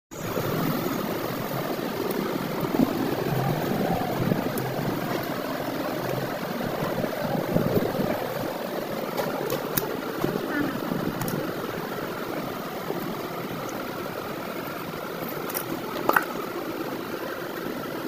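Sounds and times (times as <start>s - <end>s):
engine rumble: 0.1s - 18.0s.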